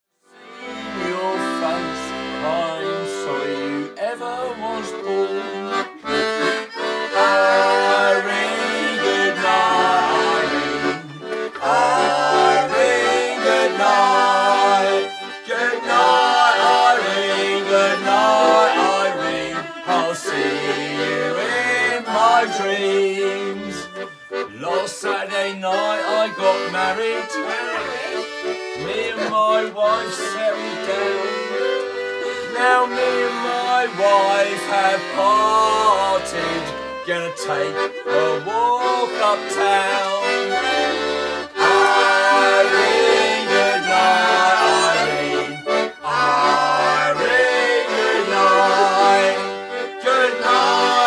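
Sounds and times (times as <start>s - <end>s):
accordion chords: 0.2s - 51.0s
fiddle melody: 0.2s - 51.0s.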